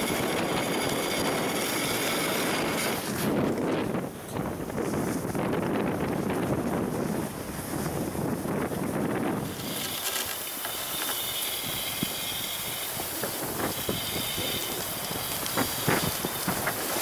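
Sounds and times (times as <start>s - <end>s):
skis gliding on snow: 0.0s - 4.0s, 4.7s - 17.0s
wind buffeting microphone: 0.0s - 17.0s.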